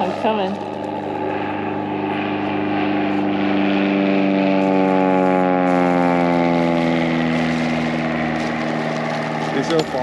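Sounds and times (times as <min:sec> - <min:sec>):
motor engine running: 0:00.0 - 0:10.0.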